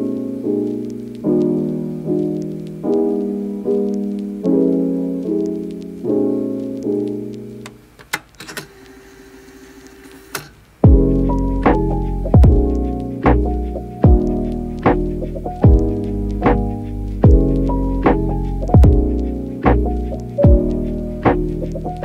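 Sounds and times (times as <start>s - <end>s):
soft piano music: 0.0s - 8.0s, 10.8s - 22.0s.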